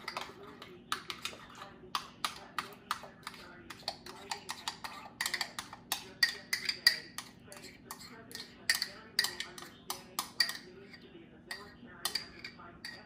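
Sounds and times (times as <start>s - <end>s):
spoon scraping ceramic bowl: 0.0s - 13.0s.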